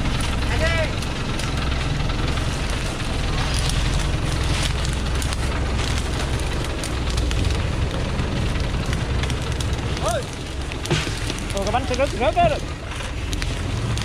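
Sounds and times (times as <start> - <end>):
diesel truck engine running: 0.0 - 14.0
twigs crackling under tyres: 0.0 - 14.0.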